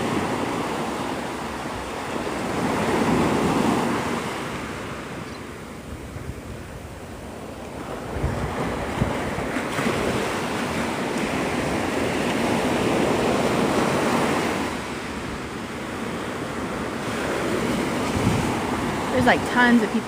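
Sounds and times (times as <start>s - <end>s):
surf breaking on beach: 0.0s - 5.2s, 7.7s - 20.0s
wind buffeting microphone: 0.0s - 20.0s.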